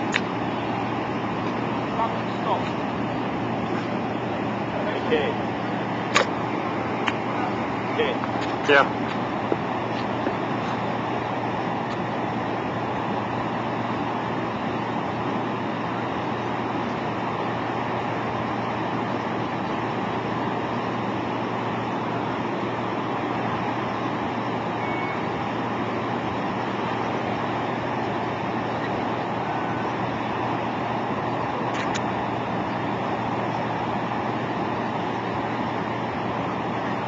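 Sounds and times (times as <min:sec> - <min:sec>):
engine and road noise in vehicle: 0:00.0 - 0:37.0.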